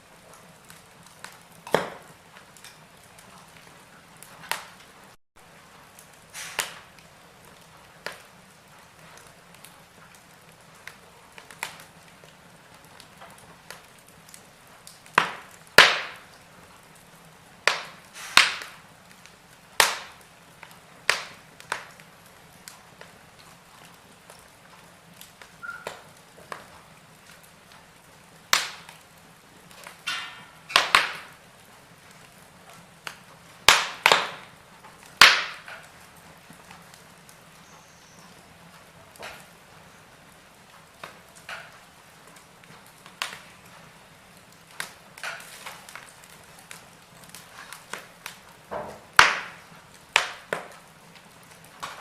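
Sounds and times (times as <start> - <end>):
faint steady hiss: 0.0 - 52.0
wood fire crackling: 0.0 - 52.0.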